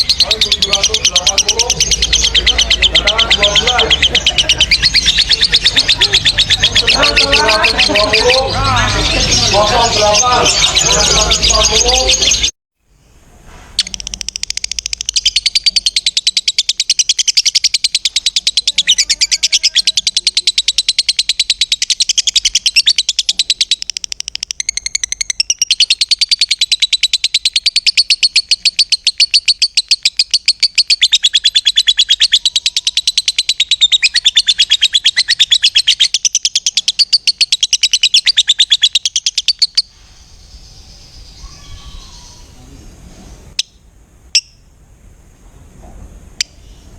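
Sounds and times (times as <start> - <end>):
lovebird shrill chatter: 0.0 - 12.5, 13.8 - 42.6.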